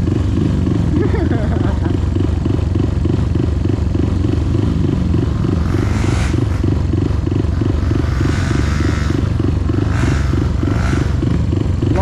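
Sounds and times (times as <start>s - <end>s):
vehicle engine throbbing: 0.0s - 12.0s.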